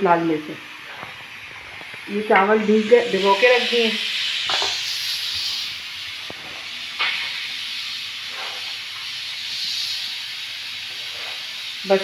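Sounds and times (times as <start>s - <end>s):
steam hissing from pressure cooker: 0.0s - 12.0s.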